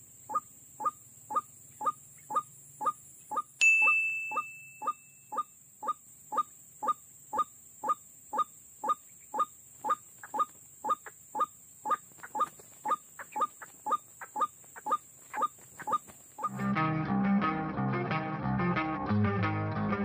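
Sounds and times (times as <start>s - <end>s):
faint high-pitched hiss: 0.0s - 16.6s
waterhen calling: 0.0s - 16.7s.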